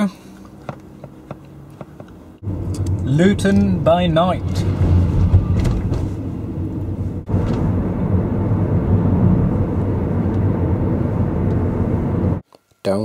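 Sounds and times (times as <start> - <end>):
car interior road rumble: 0.0 - 12.4.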